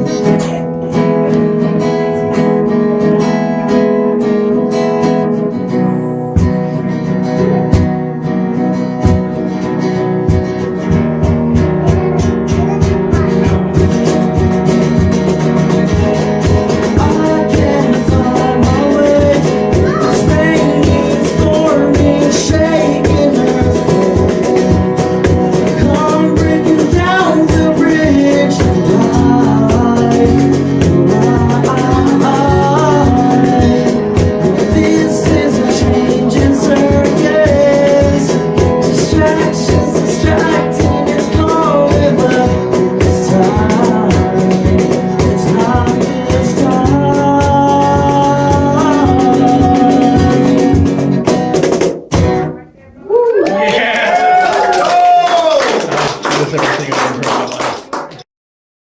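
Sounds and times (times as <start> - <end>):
strummed acoustic guitar: 0.0 - 52.8
bending lead guitar melody: 0.0 - 52.9.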